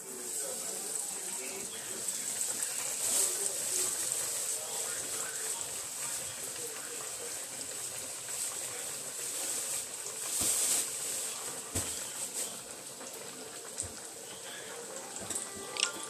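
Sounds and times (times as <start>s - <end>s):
pork frying in hot oil: 0.0s - 16.0s.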